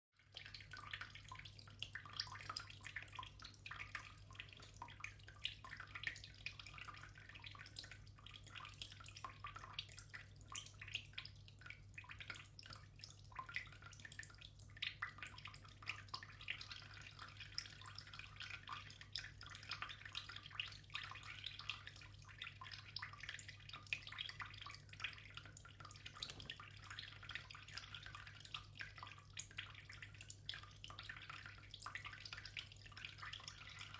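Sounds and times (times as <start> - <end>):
water trickling into bathtub: 0.2 - 33.9.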